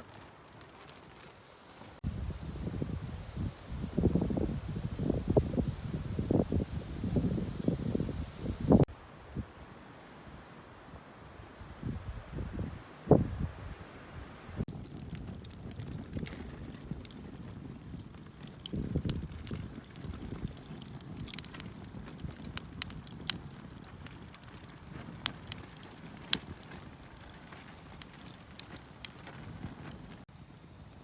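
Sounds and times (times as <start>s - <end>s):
campfire crackling and popping: 0.0s - 8.9s, 14.7s - 31.0s.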